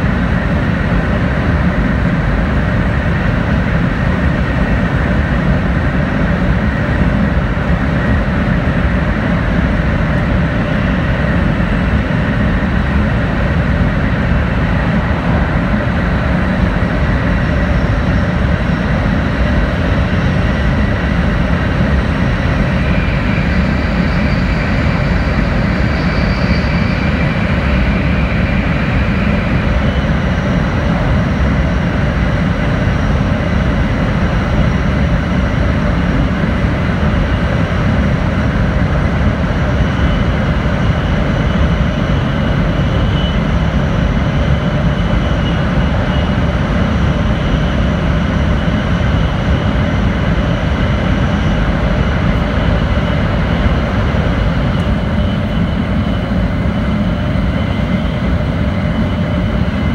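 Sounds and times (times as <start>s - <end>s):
train interior rumble and rush: 0.0s - 59.9s
faint high whines: 9.4s - 32.9s, 34.1s - 59.9s.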